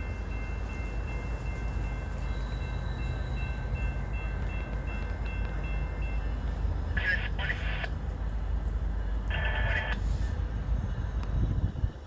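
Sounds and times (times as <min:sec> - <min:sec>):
distant freight train rumble: 0:00.0 - 0:12.0.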